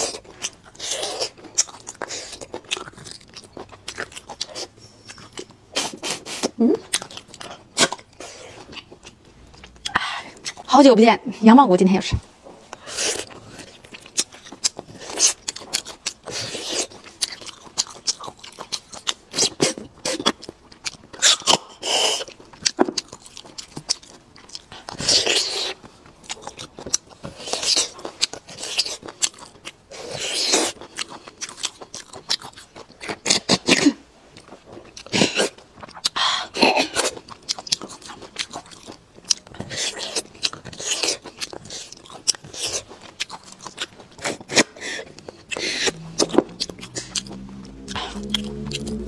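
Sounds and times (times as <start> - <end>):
chewing and lip smacking: 0.0 - 10.7, 12.7 - 49.0.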